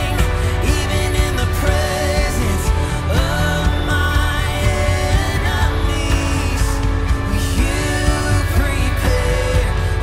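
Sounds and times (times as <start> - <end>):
live band music: 0.0 - 10.0
person singing: 0.0 - 10.0.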